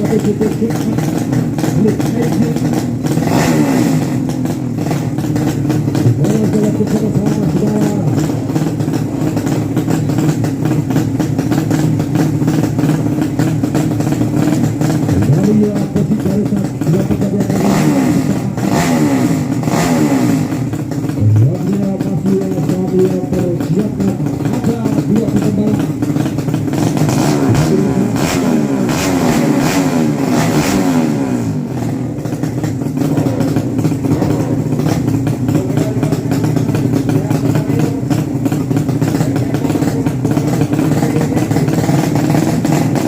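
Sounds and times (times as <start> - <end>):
racing motorcycle engines revving: 0.0 - 43.0.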